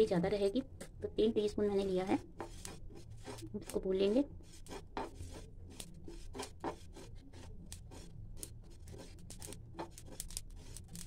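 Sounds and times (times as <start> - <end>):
spoon scraping seeds in a pan: 1.8 - 11.0.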